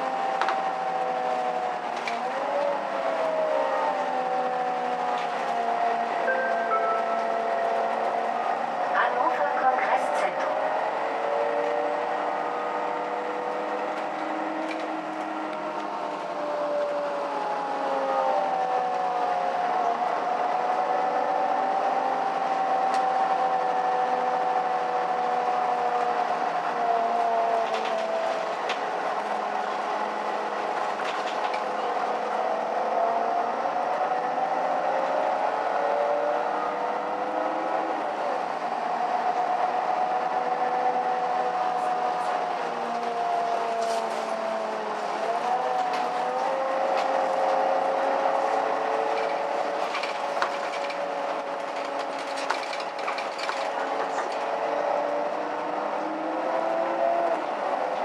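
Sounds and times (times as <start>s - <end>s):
bus engine whine: 0.0s - 58.0s.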